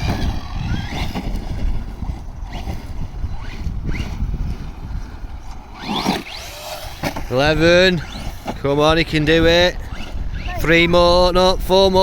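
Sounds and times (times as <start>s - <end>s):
electric motor whining: 0.0s - 11.5s
wind buffeting microphone: 0.0s - 12.0s.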